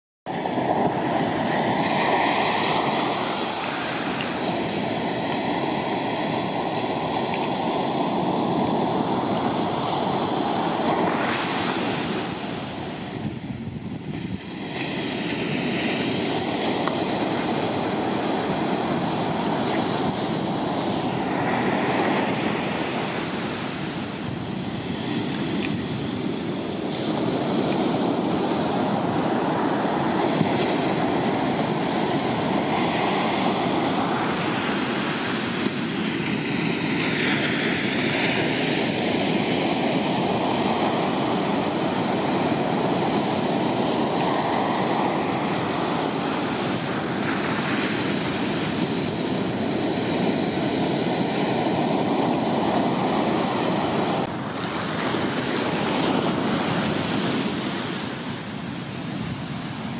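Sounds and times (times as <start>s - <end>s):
ocean surf breaking: 0.3s - 59.9s.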